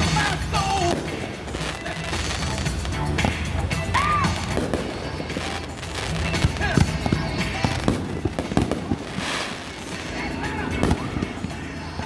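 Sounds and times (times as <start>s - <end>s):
fireworks bangs and pops: 0.0s - 12.0s
music playing: 0.0s - 12.0s.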